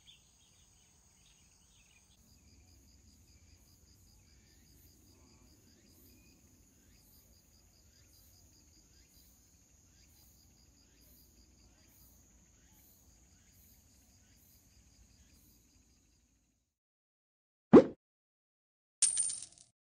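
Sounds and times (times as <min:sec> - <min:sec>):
insects pulsing chirp: 0:00.0 - 0:16.6.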